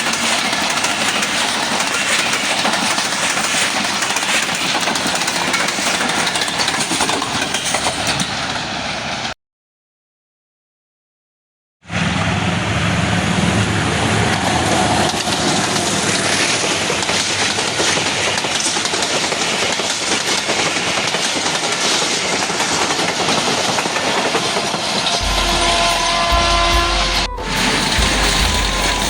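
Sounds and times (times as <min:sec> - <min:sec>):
train passing at speed: 0:00.0 - 0:09.4, 0:11.8 - 0:29.0
wheels clattering on rails: 0:00.0 - 0:09.4, 0:12.9 - 0:29.0.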